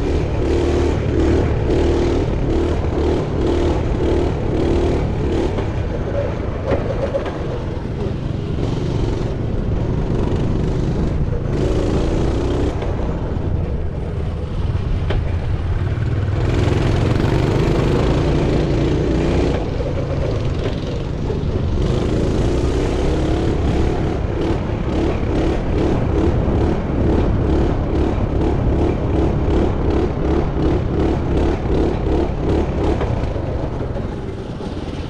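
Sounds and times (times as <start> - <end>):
motorbike engine revving: 0.0 - 35.0.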